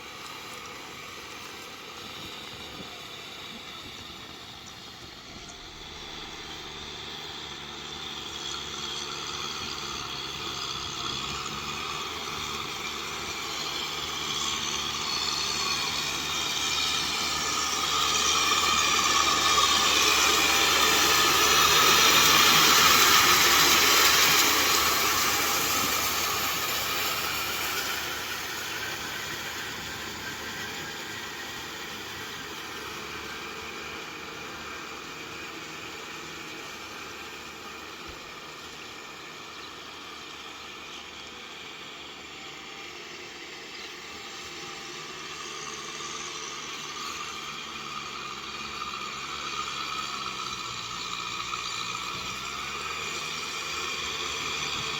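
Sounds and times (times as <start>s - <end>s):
rotavator tilling hiss: 0.0s - 54.9s
tractor diesel engine running: 0.0s - 54.9s.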